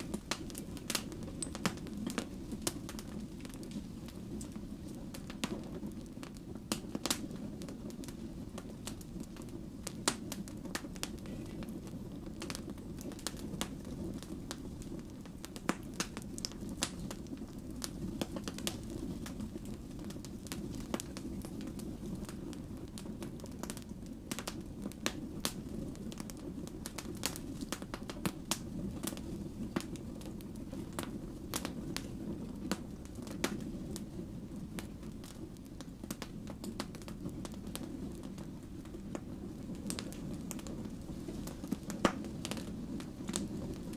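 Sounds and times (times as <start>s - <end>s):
logs crackling and popping: 0.0s - 43.9s
low rumble of flame: 0.0s - 43.9s.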